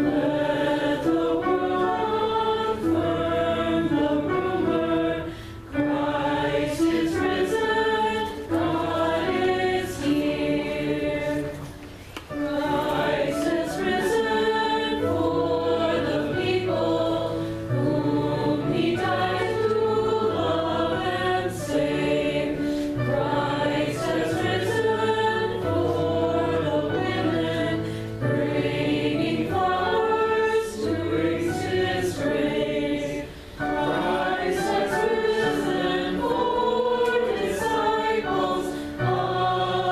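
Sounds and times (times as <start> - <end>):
group singing a hymn: 0.0 - 39.9
keyboard accompaniment: 0.0 - 39.9.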